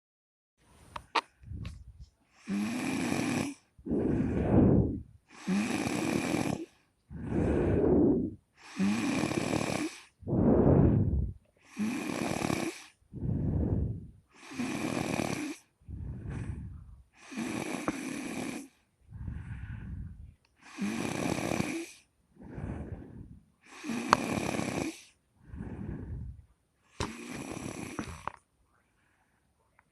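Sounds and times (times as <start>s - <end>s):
person snoring: 2.4s - 26.4s, 27.0s - 28.4s.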